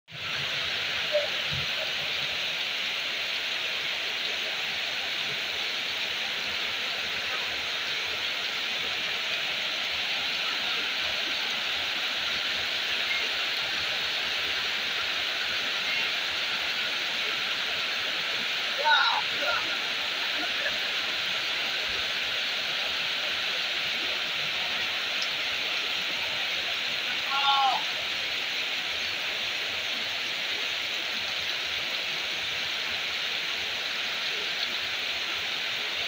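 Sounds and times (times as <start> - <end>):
heavy rain pouring: 0.1 - 36.0.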